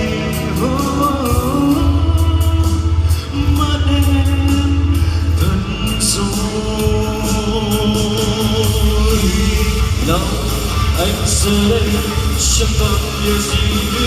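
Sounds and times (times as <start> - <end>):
song with band accompaniment: 0.0 - 14.0.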